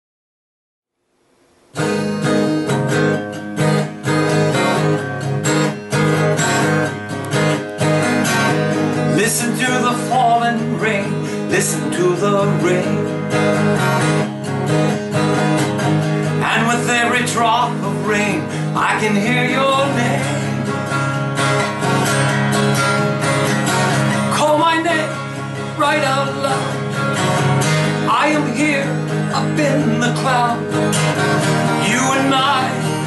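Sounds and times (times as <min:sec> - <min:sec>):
strummed acoustic guitar music: 0:01.5 - 0:33.0.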